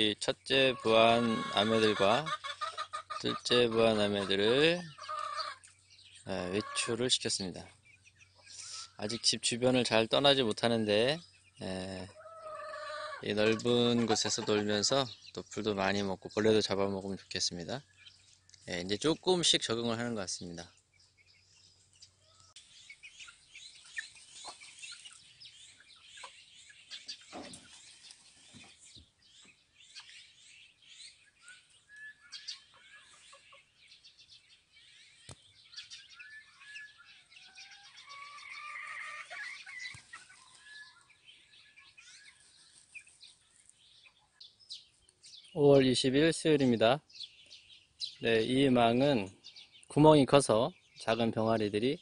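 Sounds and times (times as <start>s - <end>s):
chicks peeping: 0.0s - 52.0s.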